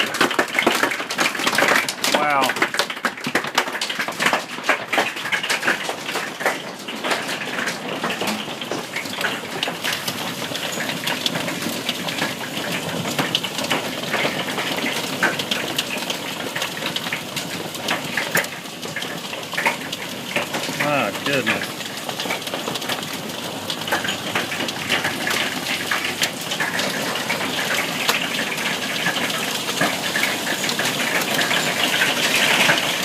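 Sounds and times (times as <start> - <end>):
hailstones cracking on hard surfaces: 0.0 - 33.0
roar of hail and rain: 0.0 - 33.0.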